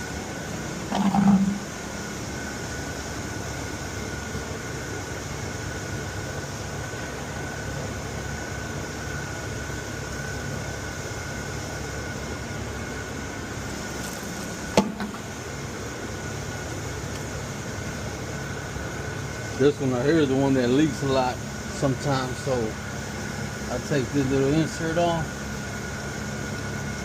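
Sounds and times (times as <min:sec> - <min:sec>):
mechanical hum with high whine: 0:00.0 - 0:27.0.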